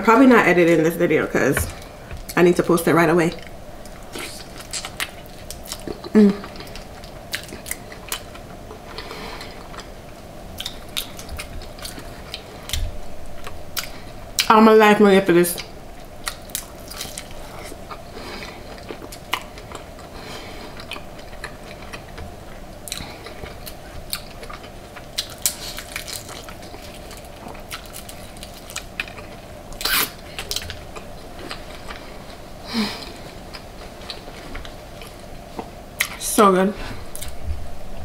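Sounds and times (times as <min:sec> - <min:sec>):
faint steady hum: 0:00.0 - 0:38.0
crunchy chewing of fried food: 0:03.4 - 0:14.5, 0:16.0 - 0:36.2.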